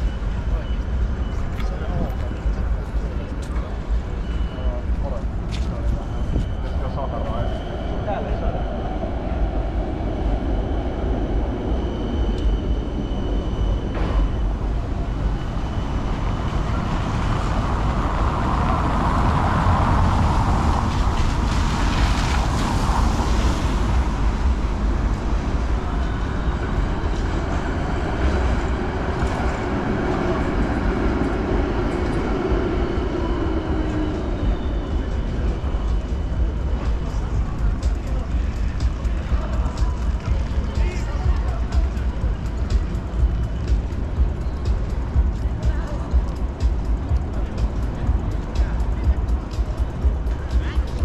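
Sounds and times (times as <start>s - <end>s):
city traffic rumble: 0.0s - 51.0s
tram running past: 0.0s - 51.0s.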